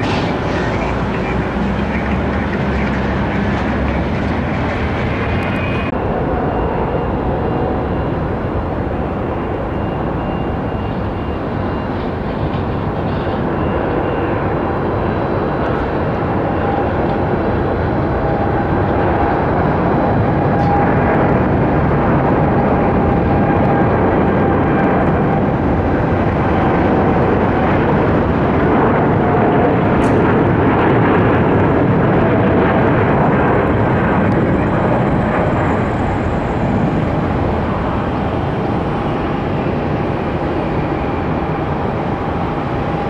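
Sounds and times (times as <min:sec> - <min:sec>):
jet engine roar: 0:00.0 - 0:43.0
jet engine whine: 0:00.0 - 0:43.0.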